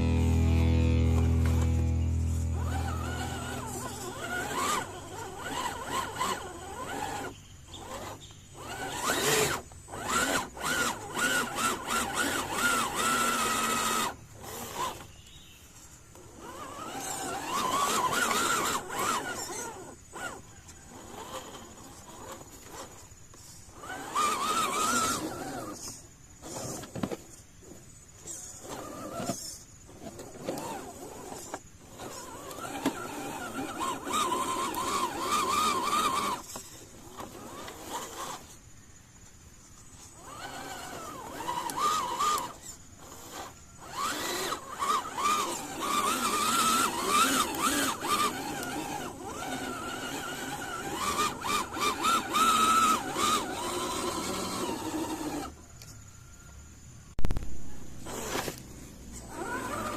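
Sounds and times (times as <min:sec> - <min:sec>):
electric motor whining: 0:00.0 - 0:15.1, 0:16.1 - 0:38.6, 0:40.0 - 0:55.6, 0:57.3 - 0:59.9.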